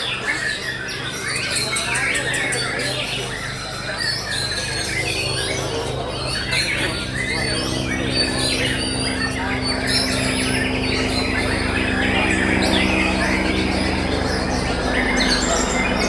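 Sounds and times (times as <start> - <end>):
birds singing: 0.0 - 16.0
steady low hum: 0.0 - 16.0.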